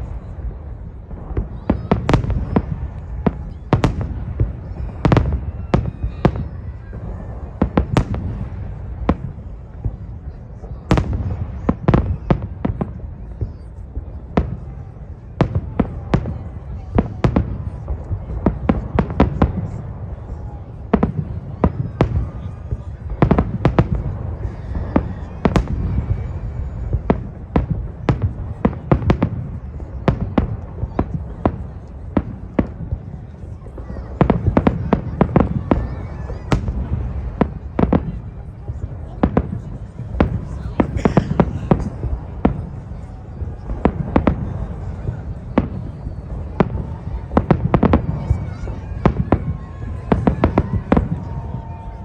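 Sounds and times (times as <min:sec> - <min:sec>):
fireworks bangs: 0:00.0 - 0:52.0.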